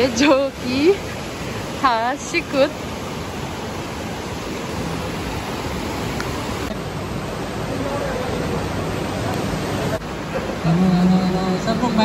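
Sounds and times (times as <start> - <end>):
fast river rushing: 0.0 - 12.0.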